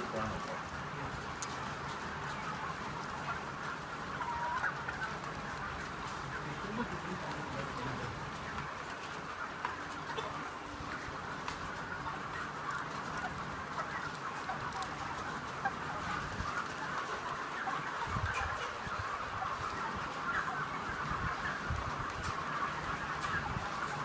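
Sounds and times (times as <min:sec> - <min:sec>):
chickens clucking and peeping: 0:00.0 - 0:24.0.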